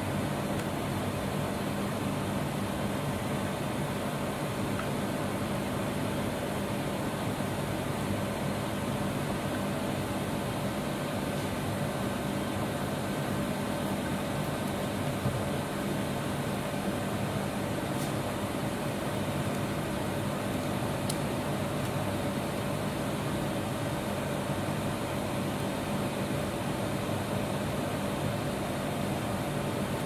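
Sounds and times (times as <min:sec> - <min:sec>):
fan hum: 0:00.0 - 0:30.0.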